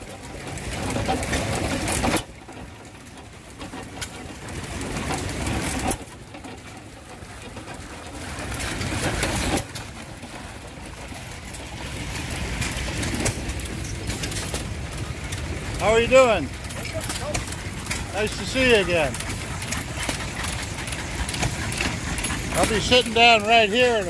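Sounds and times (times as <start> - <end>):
stationary gas engines running: 0.0 - 24.0.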